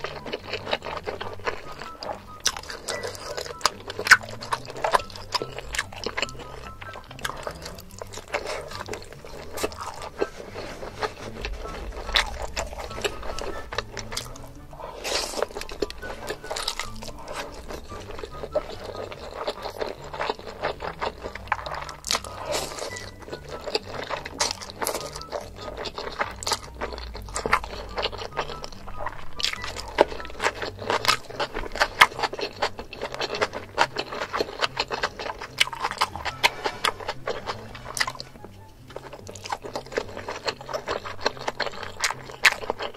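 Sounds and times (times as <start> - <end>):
background music with bass: 0.0 - 42.9
crunchy chewing: 0.0 - 42.9.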